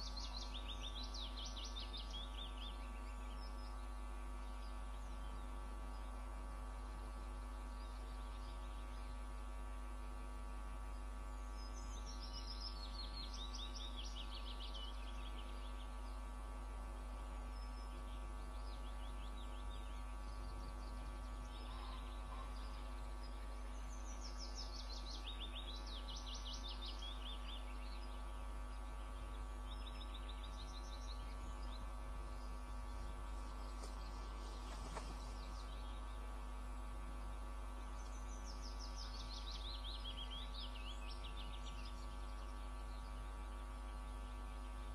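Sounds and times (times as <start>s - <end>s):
small bird singing trills: 0.0s - 9.7s, 10.8s - 44.9s
electrical hum: 0.0s - 44.9s.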